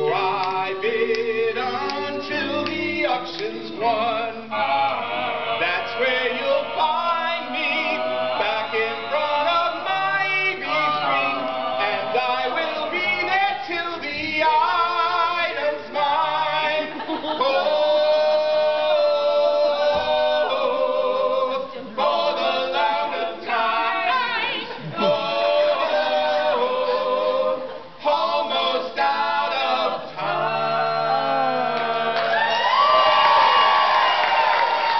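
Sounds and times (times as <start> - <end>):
a cappella group singing: 0.0 - 34.9.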